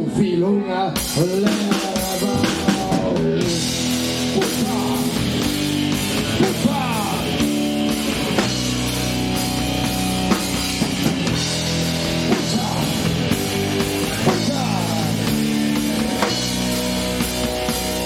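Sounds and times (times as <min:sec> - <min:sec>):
drum kit beat: 0:01.0 - 0:18.0
sustained band chords: 0:01.3 - 0:18.0.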